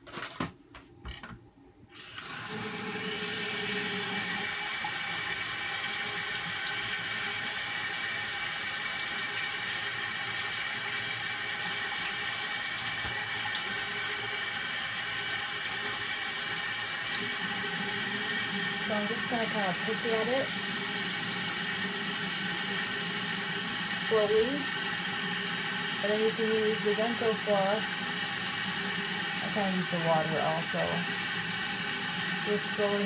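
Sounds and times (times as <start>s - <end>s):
tap water running into sink: 2.0s - 33.0s.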